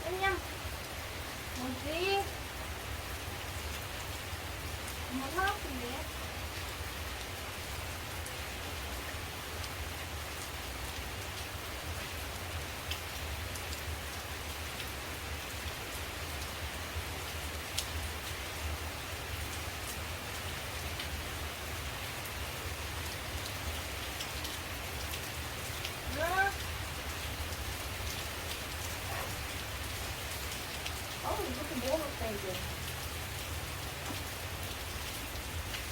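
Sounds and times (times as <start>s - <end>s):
rain falling on leaves: 0.0s - 35.9s.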